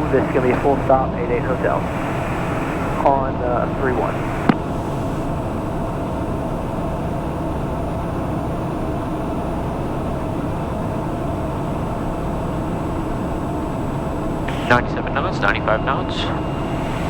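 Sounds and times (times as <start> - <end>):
faint steady hum: 0.0 - 17.0
turboprop engine drone: 0.0 - 17.0.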